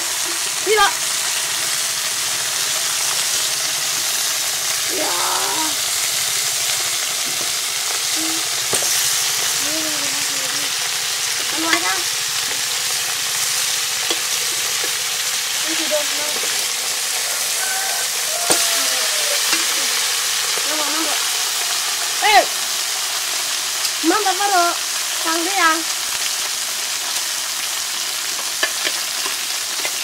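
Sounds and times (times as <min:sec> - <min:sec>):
meat sizzling in a wok: 0:00.0 - 0:30.0.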